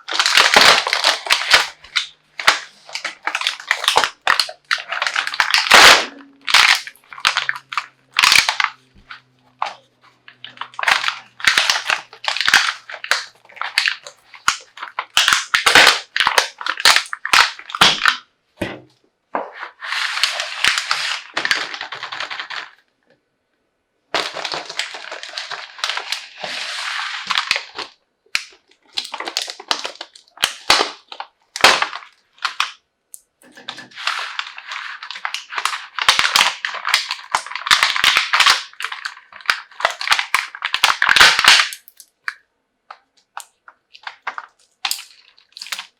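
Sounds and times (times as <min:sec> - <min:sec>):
plastic crinkling or tearing: 0:00.0 - 0:18.3, 0:19.4 - 0:22.8, 0:24.2 - 0:32.8, 0:33.4 - 0:45.9
plastic packaging crackling: 0:00.0 - 0:18.3, 0:19.4 - 0:22.9, 0:24.1 - 0:32.8, 0:33.4 - 0:45.9.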